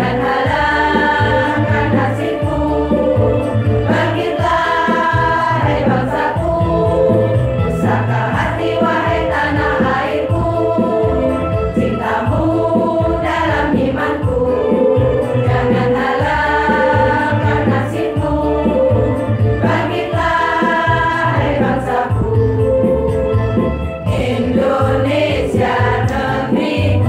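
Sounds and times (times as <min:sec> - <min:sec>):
women's choir singing: 0:00.0 - 0:23.3, 0:24.1 - 0:27.0.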